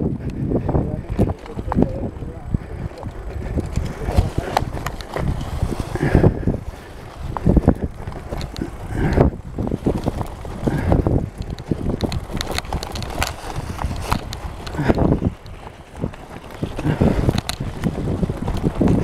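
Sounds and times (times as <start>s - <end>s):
mountain bike rattling: 0.0s - 19.0s
wind buffeting microphone: 0.0s - 19.0s
tyres on leaves and dirt: 0.7s - 19.0s.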